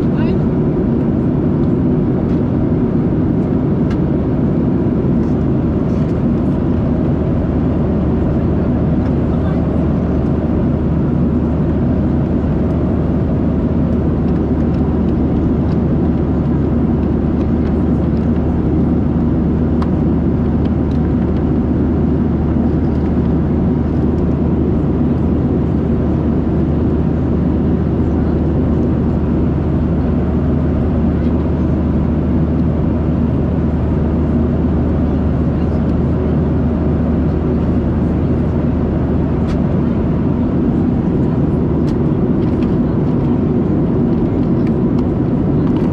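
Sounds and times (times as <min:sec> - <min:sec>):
airflow over fuselage: 0:00.0 - 0:45.9
jet engine rumble: 0:00.0 - 0:45.9.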